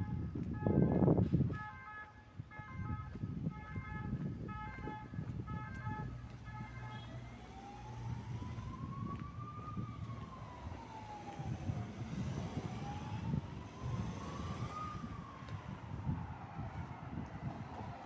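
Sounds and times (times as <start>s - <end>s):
siren wailing: 0.0s - 18.0s.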